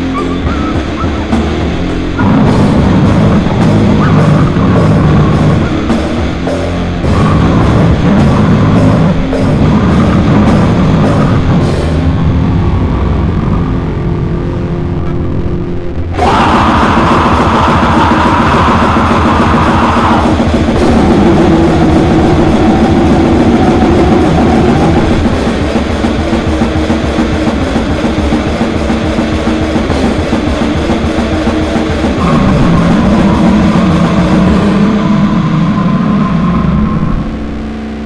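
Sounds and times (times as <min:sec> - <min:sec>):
rapid dense drumming: 0:00.0 - 0:12.4, 0:16.2 - 0:36.0
distorted metal guitars: 0:00.0 - 0:38.0.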